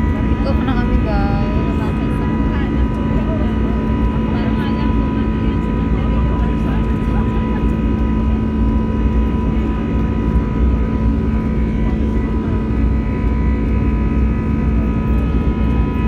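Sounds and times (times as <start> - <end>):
jet engines droning: 0.0 - 16.0
steady whining tones: 0.0 - 16.0.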